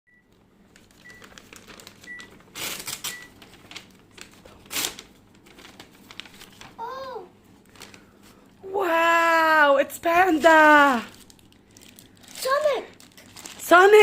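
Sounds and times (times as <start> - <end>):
paper packaging crinkling: 0.3 - 7.0, 7.6 - 8.5, 10.1 - 14.0.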